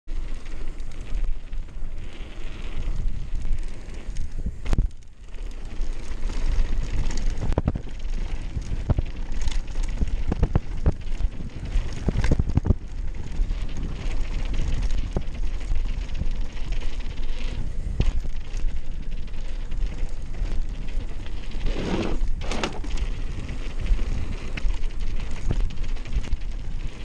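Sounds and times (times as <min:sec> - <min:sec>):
bike rattling over bumps: 0:00.1 - 0:27.0
wind buffeting microphone: 0:00.4 - 0:27.0.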